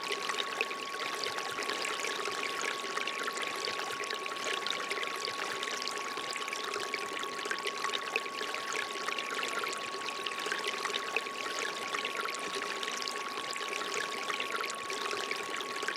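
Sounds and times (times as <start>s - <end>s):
fountain water trickling: 0.0s - 15.9s.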